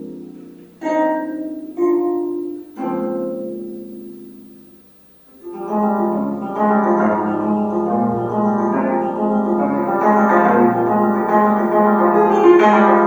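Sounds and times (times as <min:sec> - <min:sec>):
plucked zither: 0:00.0 - 0:04.5, 0:05.3 - 0:13.0.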